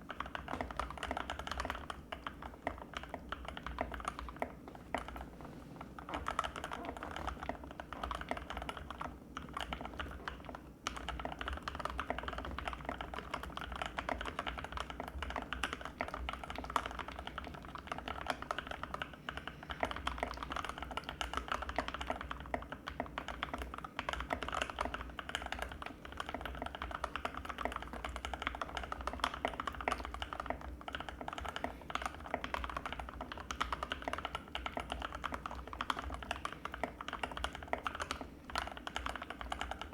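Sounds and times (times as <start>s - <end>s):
fast typing on mechanical keyboard: 0.0s - 5.3s, 6.0s - 39.9s.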